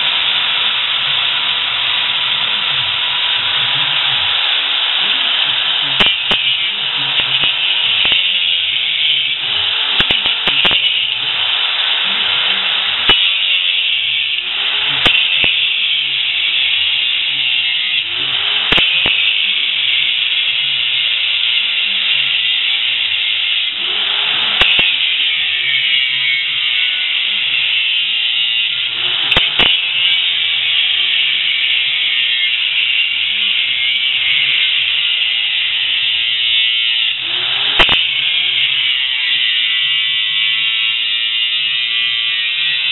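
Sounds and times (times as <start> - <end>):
angle grinder cutting metal: 0.0 - 42.9.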